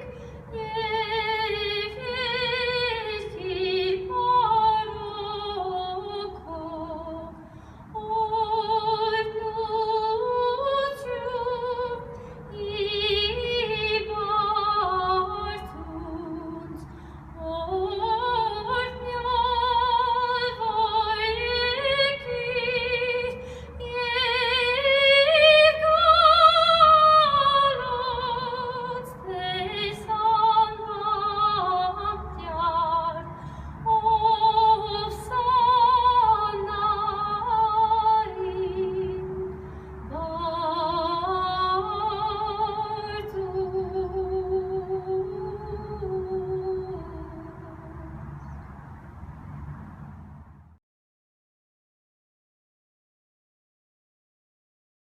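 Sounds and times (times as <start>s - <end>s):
woman singing slow melody: 0.0s - 48.2s.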